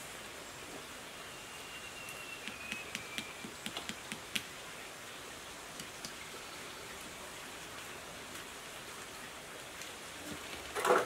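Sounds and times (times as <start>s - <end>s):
soft steady hiss: 0.0s - 11.0s.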